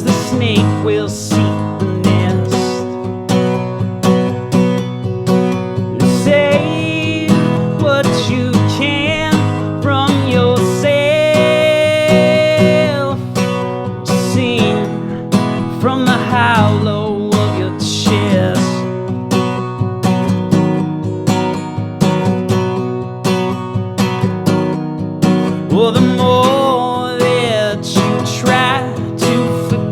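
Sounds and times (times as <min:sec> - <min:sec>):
acoustic guitar strumming: 0:00.0 - 0:29.9
bending lead guitar melody: 0:00.0 - 0:29.9.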